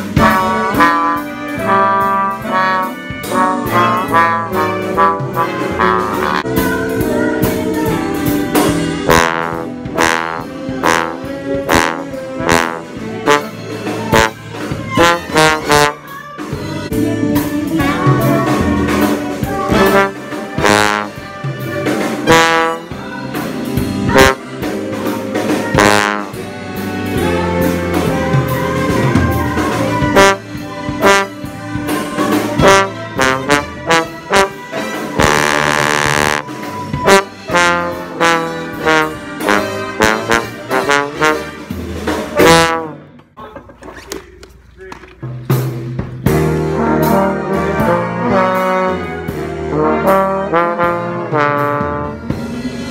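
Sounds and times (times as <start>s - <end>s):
bass trombone accents: 0.0s - 43.6s, 45.4s - 52.9s
big band jazz: 0.0s - 52.9s.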